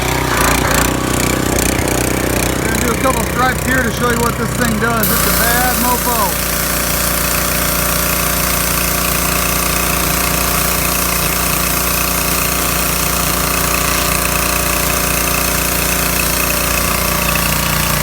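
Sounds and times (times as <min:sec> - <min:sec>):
pressure washer engine running: 0:00.0 - 0:18.0
water jet spraying concrete: 0:00.1 - 0:18.0.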